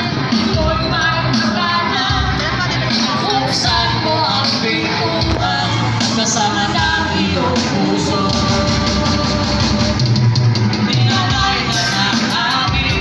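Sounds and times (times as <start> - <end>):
drum kit: 0.0 - 13.0
person singing: 0.0 - 13.0.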